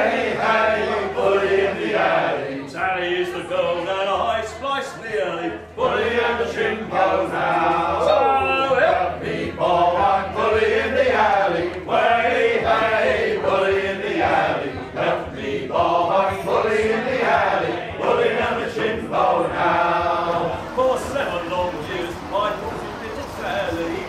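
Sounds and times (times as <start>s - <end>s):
voices singing a chant: 0.0s - 24.0s.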